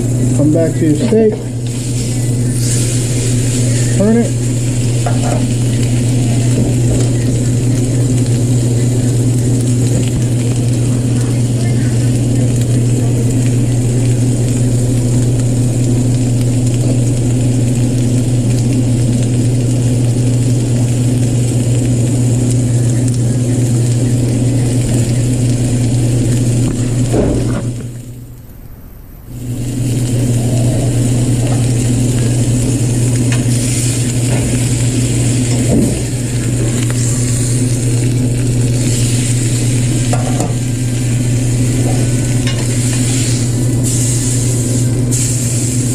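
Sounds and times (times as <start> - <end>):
steak sizzling in a grill pan: 0.0 - 28.2, 29.3 - 45.9
steady low hum: 0.0 - 45.9.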